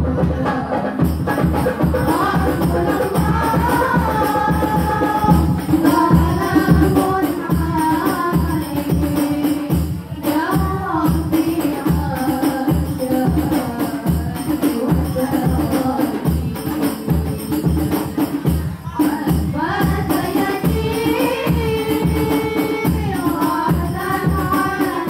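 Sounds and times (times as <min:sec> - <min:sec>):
frame drums beating: 0:00.0 - 0:25.0
women singing together: 0:00.0 - 0:25.0.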